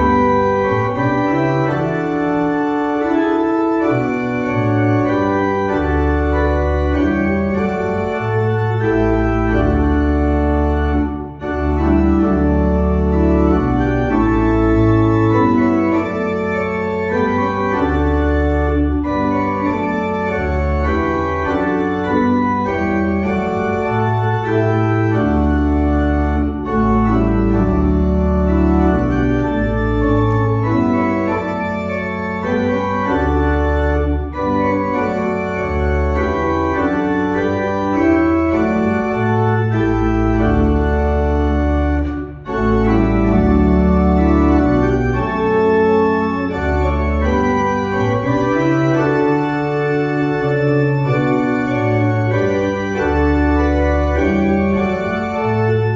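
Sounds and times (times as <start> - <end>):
pipe organ chords: 0.0 - 55.9.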